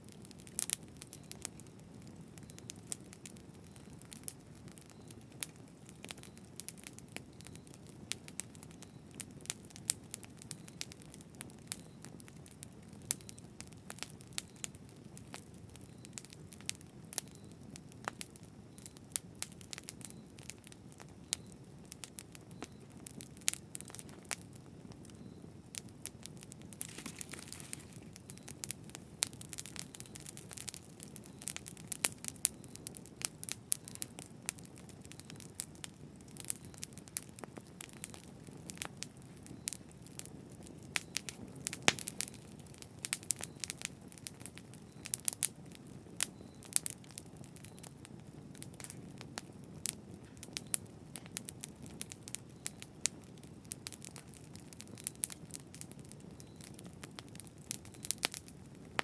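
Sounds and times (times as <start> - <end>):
bonfire burning: 0.0 - 59.0.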